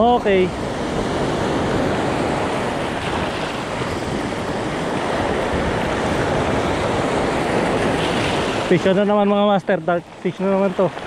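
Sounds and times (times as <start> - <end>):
surf breaking on a stony beach: 0.0 - 11.0
wind on the microphone: 0.0 - 11.0.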